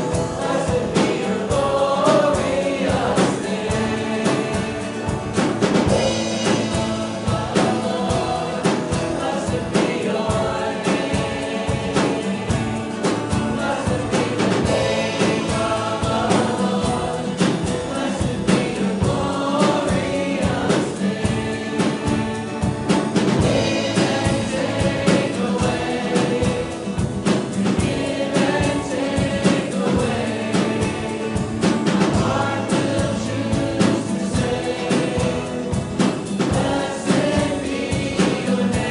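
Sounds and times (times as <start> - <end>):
group singing worship song: 0.0 - 38.9
instrumental accompaniment with beat: 0.0 - 38.9.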